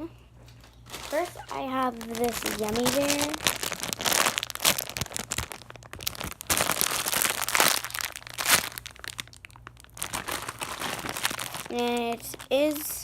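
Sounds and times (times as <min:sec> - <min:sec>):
plastic packaging crinkling: 0:00.5 - 0:13.0.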